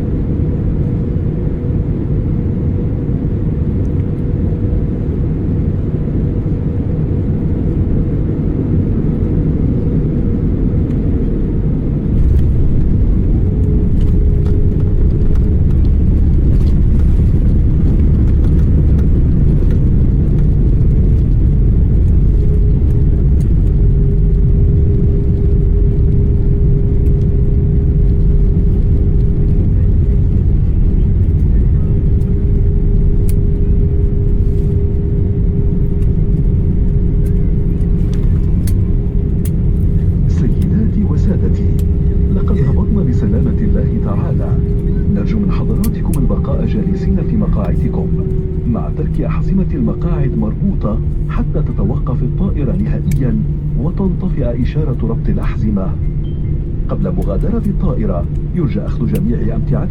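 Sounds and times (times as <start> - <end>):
aircraft cabin engine rumble: 0.0 - 59.9
faint whine: 0.0 - 59.9.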